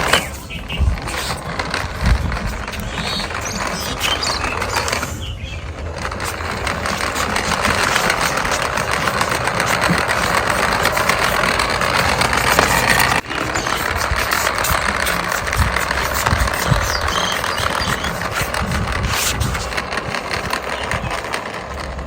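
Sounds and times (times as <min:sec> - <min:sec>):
toy electric motor whirring: 0:00.0 - 0:22.0.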